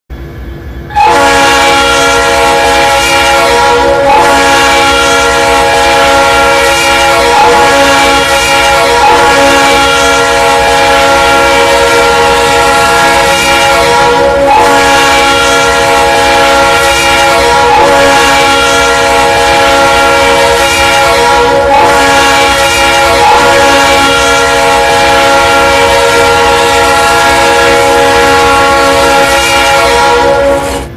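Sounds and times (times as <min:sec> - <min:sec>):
locomotive air horn chord: 0:00.9 - 0:30.9.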